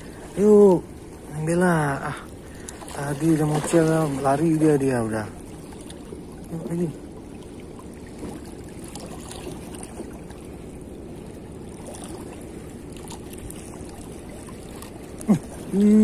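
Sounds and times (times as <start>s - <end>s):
small splashes: 0.0s - 16.0s
steady low rumble: 0.0s - 16.0s
water lapping against rocks: 0.0s - 16.0s.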